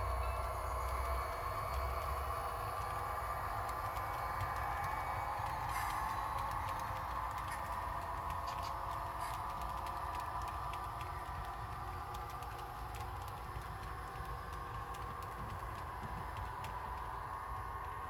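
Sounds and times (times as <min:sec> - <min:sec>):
model train wheels clicking: 0:00.0 - 0:18.0
steady hum: 0:00.0 - 0:18.0.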